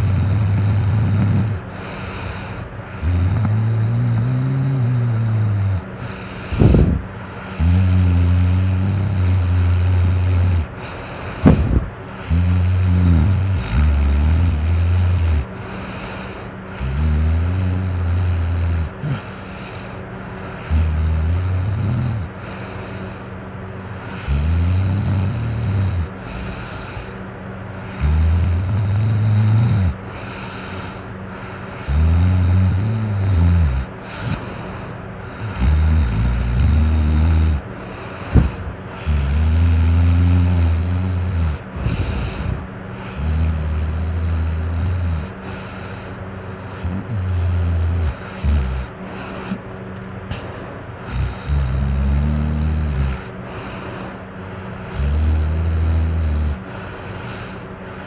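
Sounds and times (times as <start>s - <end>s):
electric fan running: 0.0s - 58.0s
man snoring: 0.0s - 58.0s.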